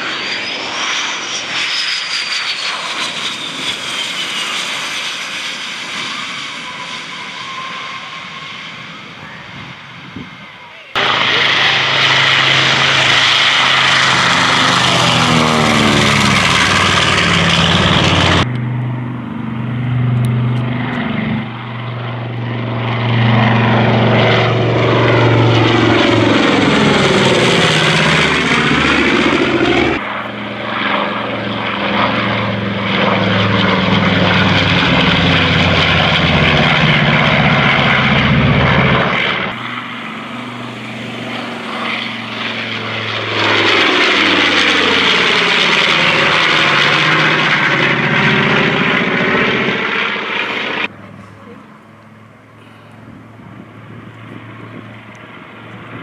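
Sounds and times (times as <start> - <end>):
propeller plane engines passing: 0.0 - 56.0.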